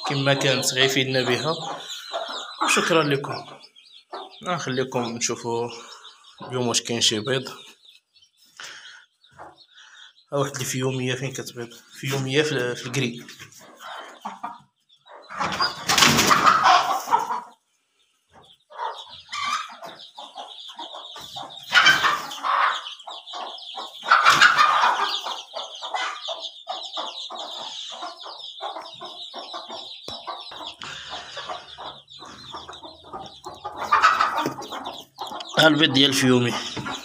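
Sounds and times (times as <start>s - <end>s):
chickens clucking: 0.0s - 37.0s
high-pitched peeping: 0.0s - 37.0s.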